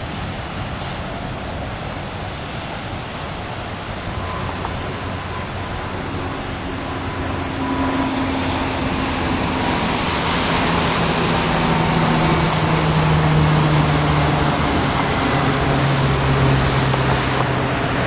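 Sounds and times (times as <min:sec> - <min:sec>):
engine drone: 0:00.0 - 0:18.0
surf: 0:00.0 - 0:18.0.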